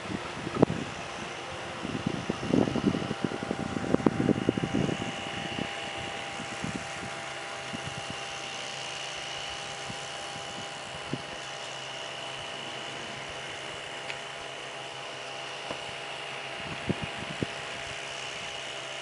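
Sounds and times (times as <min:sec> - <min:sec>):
train hum with high whine: 0:00.0 - 0:19.0.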